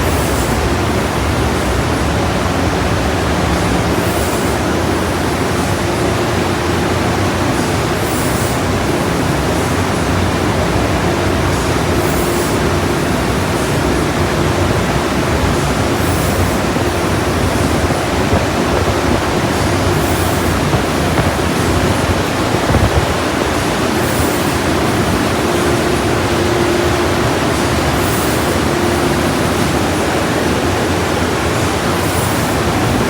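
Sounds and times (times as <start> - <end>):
car wash rushing: 0.0 - 33.0
faint hum: 0.0 - 33.0.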